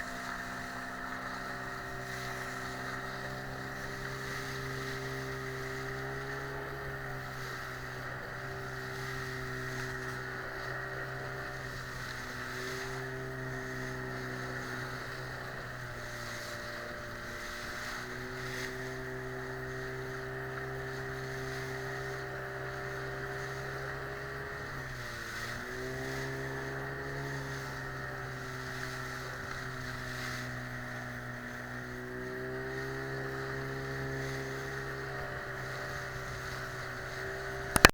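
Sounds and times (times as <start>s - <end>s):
outboard motor running: 0.0s - 37.9s.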